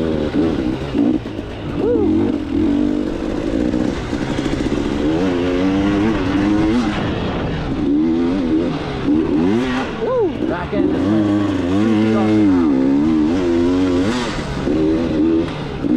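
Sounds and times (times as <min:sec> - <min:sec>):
two-stroke dirt bike engine revving: 0:00.0 - 0:15.9.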